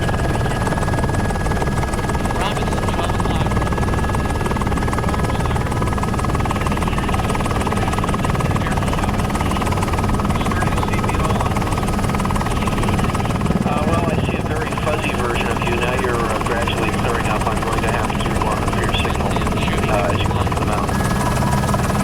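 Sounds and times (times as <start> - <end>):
helicopter high whine: 0.0 - 22.0
helicopter rotor rumble: 0.0 - 22.0.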